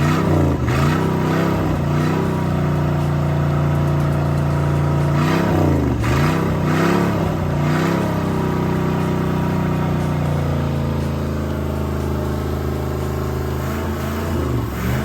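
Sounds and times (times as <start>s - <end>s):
boat engine revving and idling: 0.0s - 15.0s.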